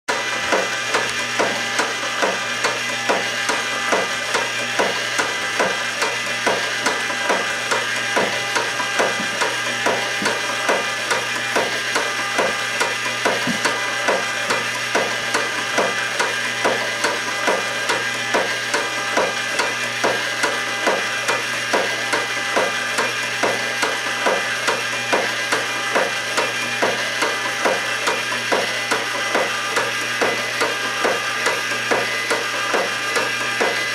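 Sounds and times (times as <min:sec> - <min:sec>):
steady hum: 0:00.1 - 0:33.9.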